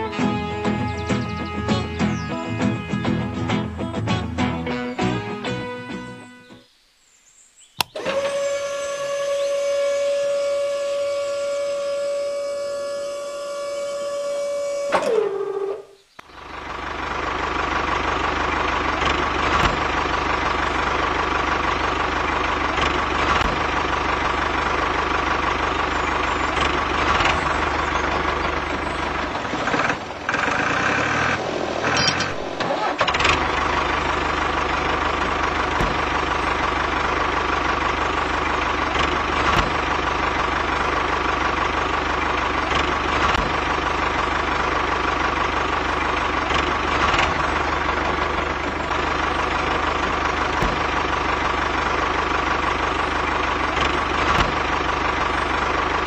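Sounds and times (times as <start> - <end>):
tractor engine running: 0.0 - 6.3, 7.8 - 56.0.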